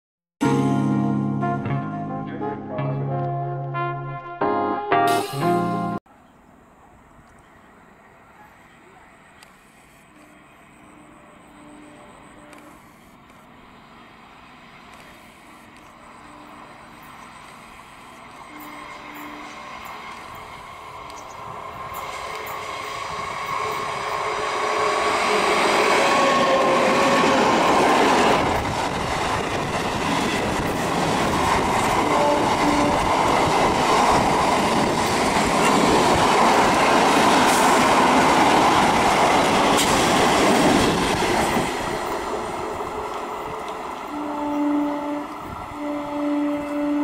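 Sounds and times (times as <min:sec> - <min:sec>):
electric train whine: 0:05.4 - 0:47.0
wheels rushing on rail: 0:06.1 - 0:47.0.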